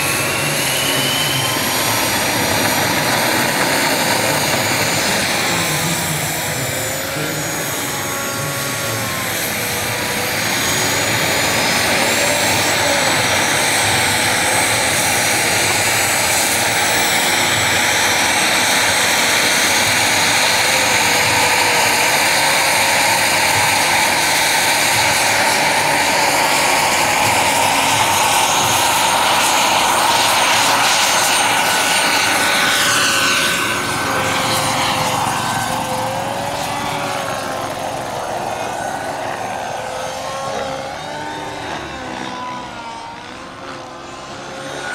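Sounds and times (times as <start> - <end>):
helicopter rotor noise: 0.0 - 44.9
model turbine engine whine: 0.0 - 44.9.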